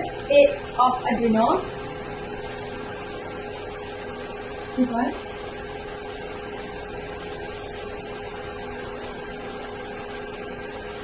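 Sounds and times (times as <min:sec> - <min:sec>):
constant low hum tone: 0:00.0 - 0:11.0.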